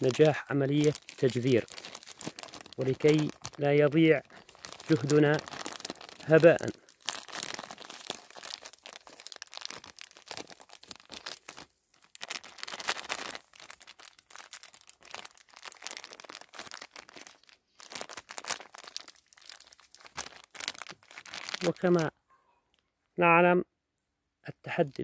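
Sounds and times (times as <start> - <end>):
plastic bag crinkling: 0.0 - 22.1
soft crunching of peat moss: 0.0 - 22.1.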